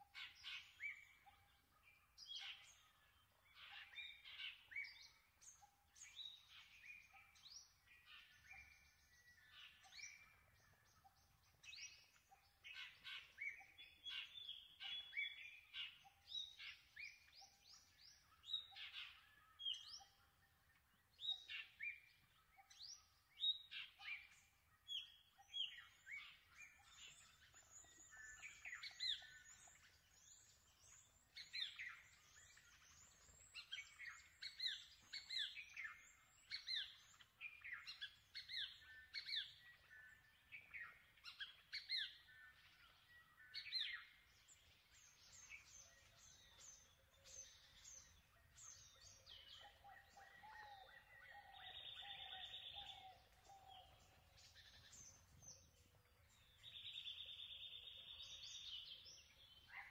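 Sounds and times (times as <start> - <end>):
birds chirping and whistling: 2.2 - 20.4, 21.0 - 59.9.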